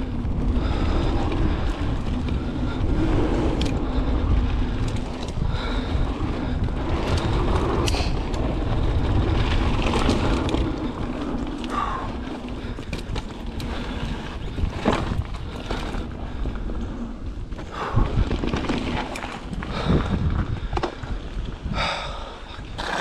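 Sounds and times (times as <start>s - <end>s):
tyre noise on dirt: 0.0s - 22.0s
mountain bike rattling: 0.0s - 23.0s
wind rushing over microphone: 0.0s - 23.0s.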